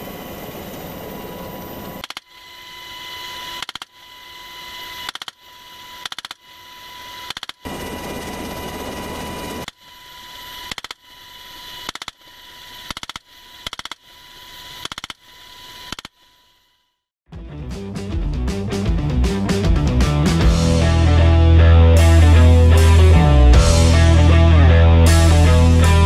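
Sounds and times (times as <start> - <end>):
helicopter whine and rush: 0.0 - 15.0, 19.5 - 26.0.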